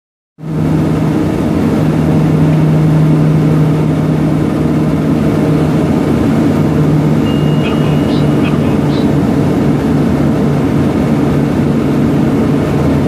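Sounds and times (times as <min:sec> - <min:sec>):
propeller drone: 0:00.4 - 0:13.0.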